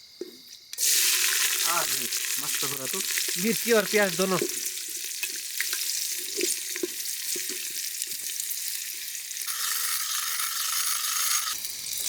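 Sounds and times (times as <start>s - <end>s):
onions sizzling in hot oil: 0.5s - 12.0s.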